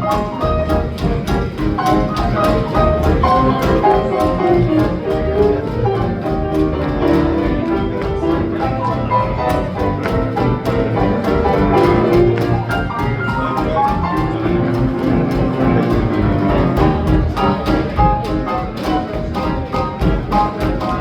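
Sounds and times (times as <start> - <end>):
swing jazz band playing: 0.0 - 21.0.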